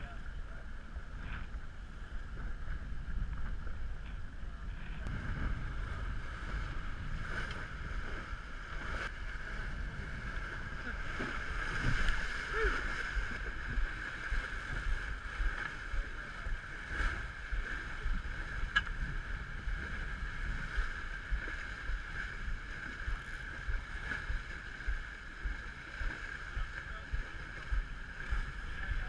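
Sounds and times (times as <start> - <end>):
water rushing past hull: 0.0 - 29.0
wind buffeting microphone: 0.0 - 29.0.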